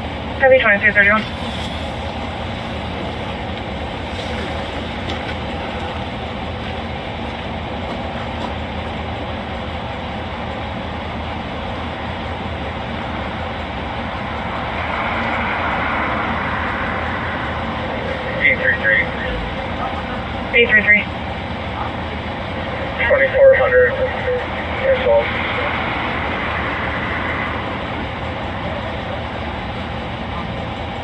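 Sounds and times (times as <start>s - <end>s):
car engine idling: 0.0s - 31.0s
low hum: 0.0s - 31.0s.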